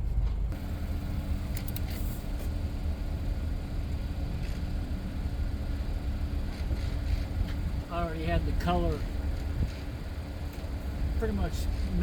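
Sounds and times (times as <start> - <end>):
motor running: 0.5 - 12.0.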